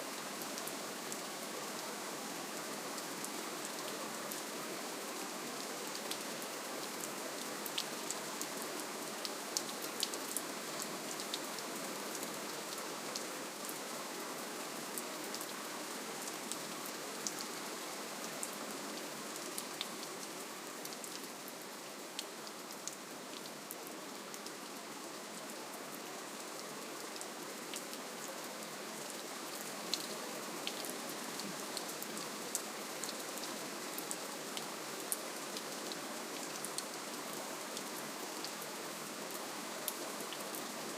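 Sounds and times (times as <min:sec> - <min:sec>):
rain hiss: 0:00.0 - 0:40.9.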